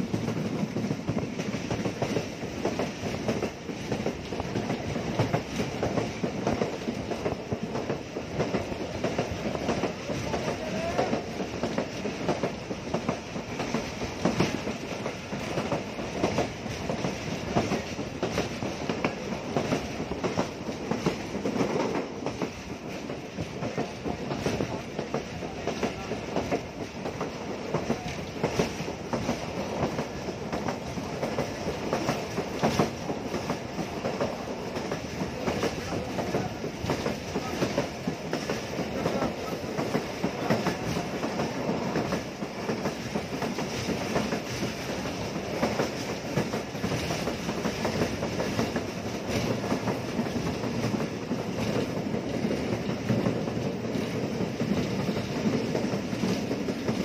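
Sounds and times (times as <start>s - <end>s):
clickety-clack of rail joints: 0.0s - 57.0s
train wheels rumbling on track: 0.0s - 57.0s.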